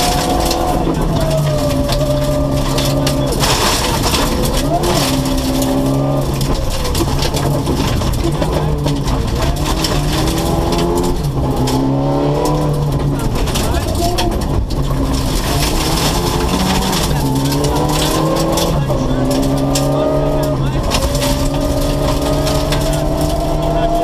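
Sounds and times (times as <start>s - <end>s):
gravel noise under a car: 0.0s - 24.0s
rally car engine revving: 0.0s - 24.0s
stones clattering under a car: 0.0s - 24.0s.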